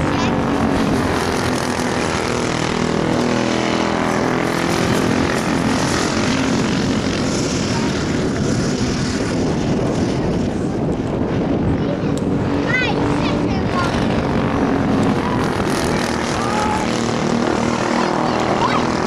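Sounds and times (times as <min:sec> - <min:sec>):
distant kart engines: 0:00.0 - 0:19.0
kart engines passing: 0:00.0 - 0:19.0.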